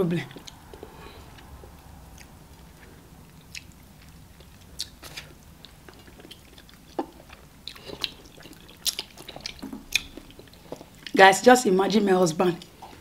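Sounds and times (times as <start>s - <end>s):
wet mouth smacks and chewing: 0.4s - 11.2s.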